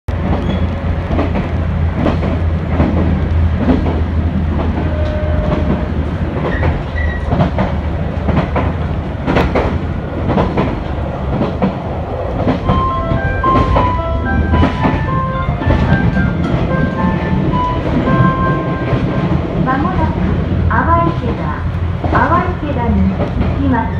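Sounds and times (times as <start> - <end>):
wheels clacking over rail joints: 0.1 - 20.6
railcar rumble: 0.1 - 23.9.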